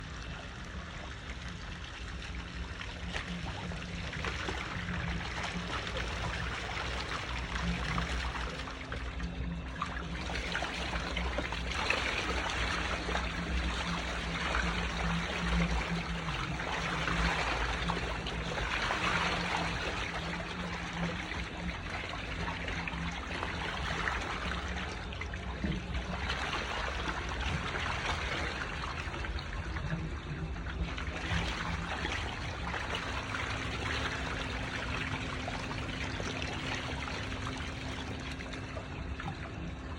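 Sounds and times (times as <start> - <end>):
low steady hum: 0.0 - 39.9
water trickling: 0.0 - 39.9.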